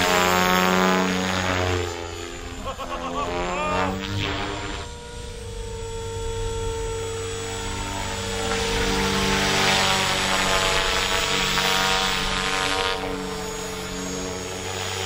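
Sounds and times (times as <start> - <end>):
model helicopter rotor whine: 0.0 - 15.0.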